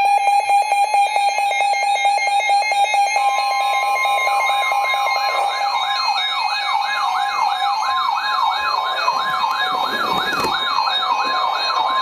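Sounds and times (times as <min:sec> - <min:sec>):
yelping siren: 0:00.0 - 0:12.0
steady warning tone: 0:01.8 - 0:12.0.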